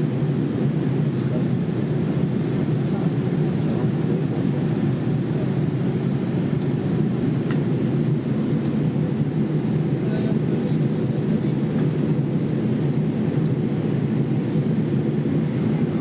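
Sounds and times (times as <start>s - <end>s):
airliner cabin engine roar: 0.0s - 16.0s.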